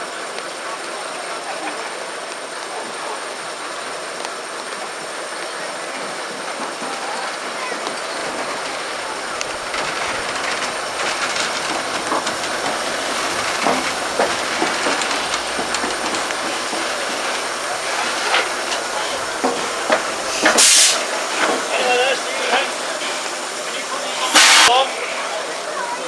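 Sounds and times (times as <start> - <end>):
train wheels clicking on rails: 0.2 - 25.9.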